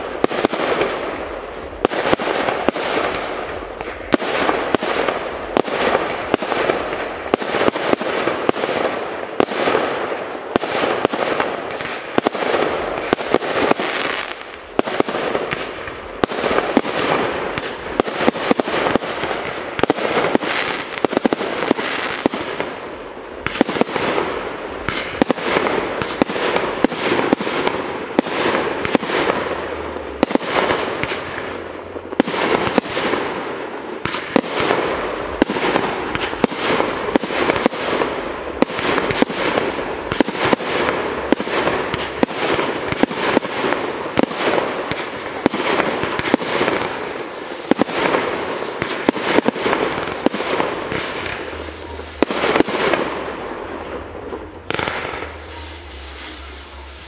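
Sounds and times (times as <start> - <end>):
fireworks bangs: 0.0 - 57.0
fireworks crackle and hiss: 0.0 - 57.0.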